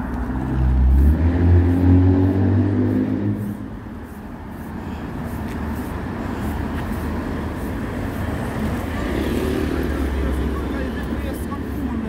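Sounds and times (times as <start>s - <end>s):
steady traffic hum: 0.0s - 12.0s
vehicle engine rumbling close by: 0.0s - 12.0s.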